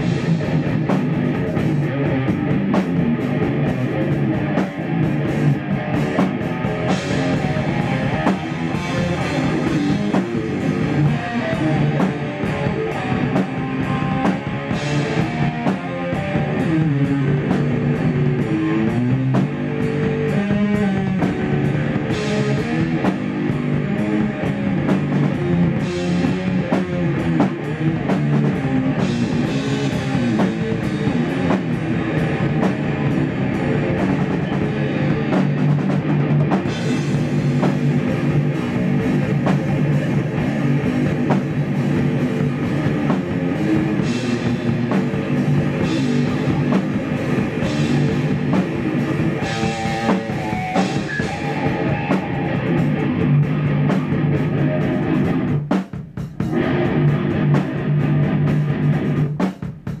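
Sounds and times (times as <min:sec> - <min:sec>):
drum kit: 0:00.0 - 1:00.0
electric guitar: 0:00.0 - 1:00.0.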